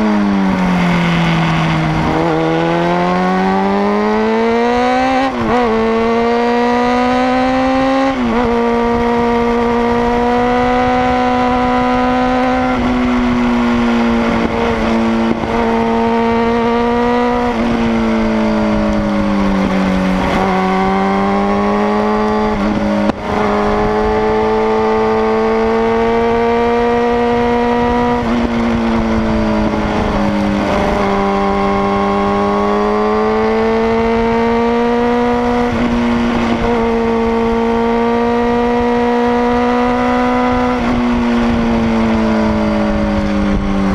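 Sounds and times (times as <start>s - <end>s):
motorcycle engine revving high: 0.0s - 43.9s
wind rushing over microphone: 0.0s - 43.9s.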